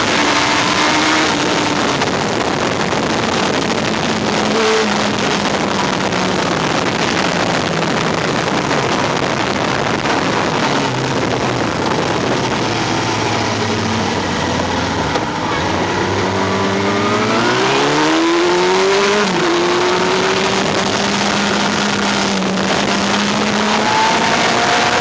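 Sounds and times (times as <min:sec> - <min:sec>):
motorcycle engine: 0:00.0 - 0:25.0
wind rushing on microphone: 0:00.0 - 0:25.0.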